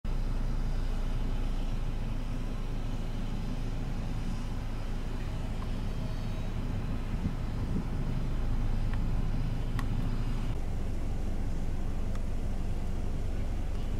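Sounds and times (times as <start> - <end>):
engine idling: 0.1 - 13.9.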